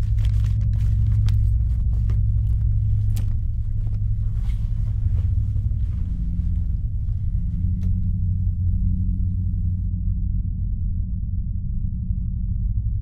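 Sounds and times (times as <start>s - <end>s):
deep low rumble: 0.0s - 13.0s.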